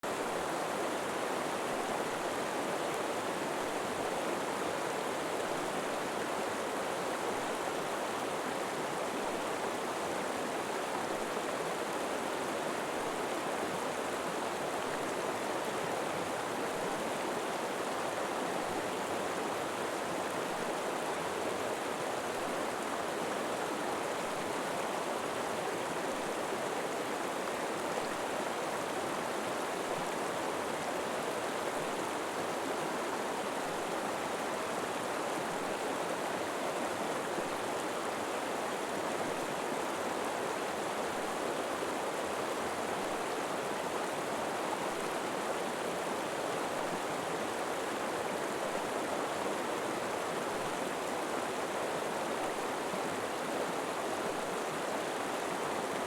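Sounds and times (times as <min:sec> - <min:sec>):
river water flowing over rocks: 0:00.1 - 0:56.0.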